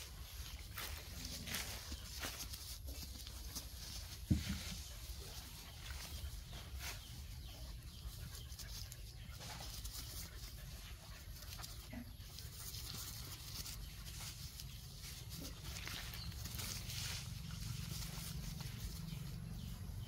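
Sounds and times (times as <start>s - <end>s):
dogs scuffling on grass: 0.0s - 20.0s.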